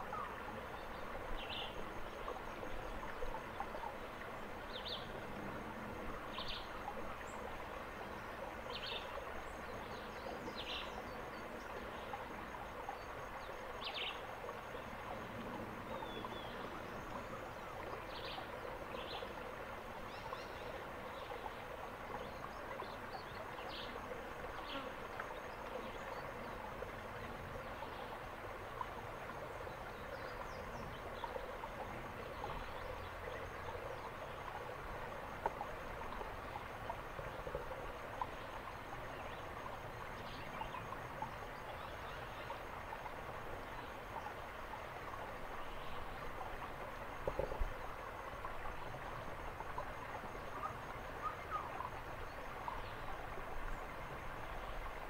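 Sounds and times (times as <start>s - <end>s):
forest background hiss: 0.0s - 55.0s.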